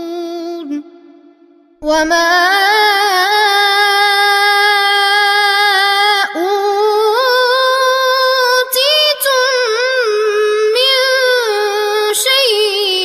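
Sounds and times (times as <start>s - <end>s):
boy chanting melodically: 0.0s - 13.0s.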